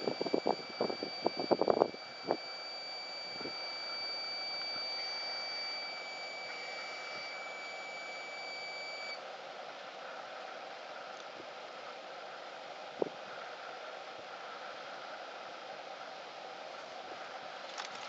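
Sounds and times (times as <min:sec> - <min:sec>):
high-pitched whine: 0:00.0 - 0:17.6
bubble machine fan: 0:00.0 - 0:18.0.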